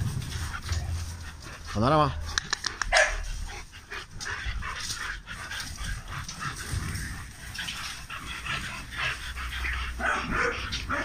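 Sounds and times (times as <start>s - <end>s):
dogs panting: 0.0s - 11.0s.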